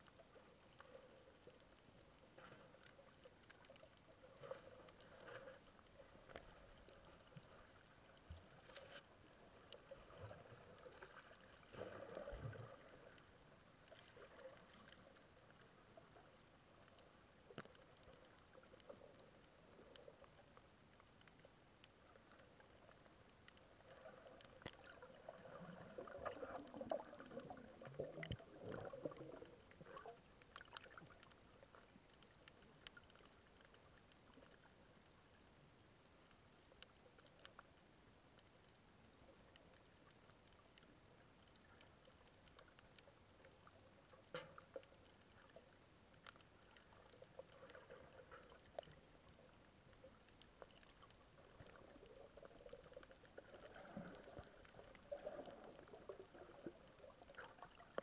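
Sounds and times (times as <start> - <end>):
water moving against camera: 0.0 - 35.4, 36.1 - 58.0.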